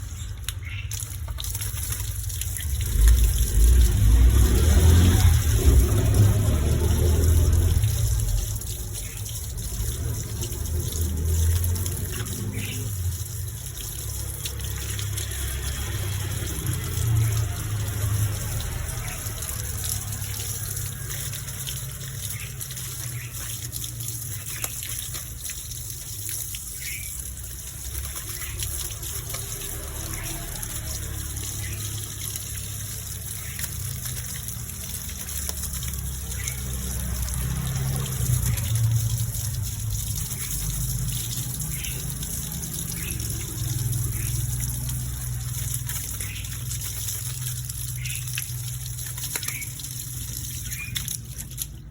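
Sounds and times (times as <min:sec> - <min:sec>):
water spraying with a hiss: 0:00.0 - 0:51.9.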